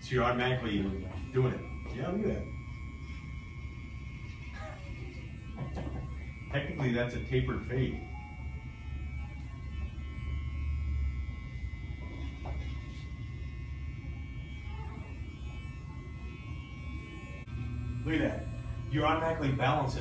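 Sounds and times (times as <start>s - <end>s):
electric hair clippers buzzing: 0.0s - 20.0s.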